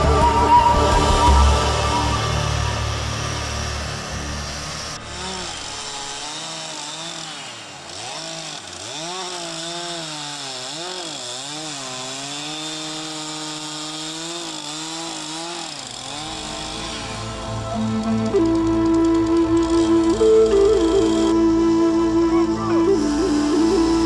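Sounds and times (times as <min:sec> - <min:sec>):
chainsaw cutting wood: 0:00.0 - 0:21.8, 0:22.8 - 0:24.0.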